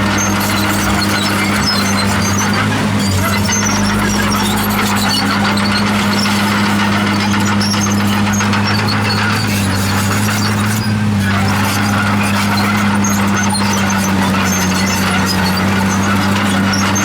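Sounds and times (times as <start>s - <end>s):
bulldozer diesel engine running: 0.0s - 17.0s
steel tracks squeaking: 0.0s - 17.0s.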